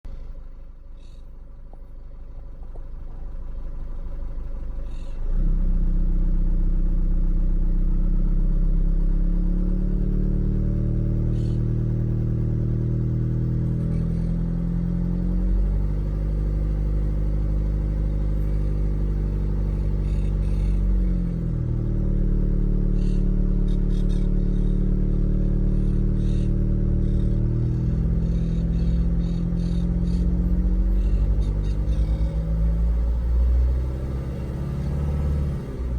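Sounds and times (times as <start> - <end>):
diesel engine deep drone: 0.0 - 35.9
diesel engine running at low revs: 0.0 - 35.9.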